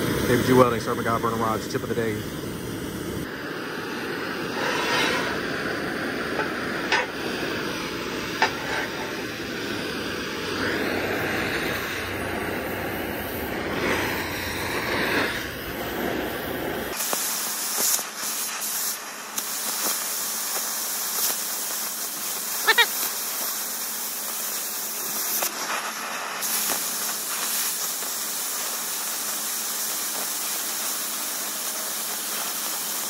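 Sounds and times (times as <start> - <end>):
cutting torch flame hissing: 0.0 - 33.0.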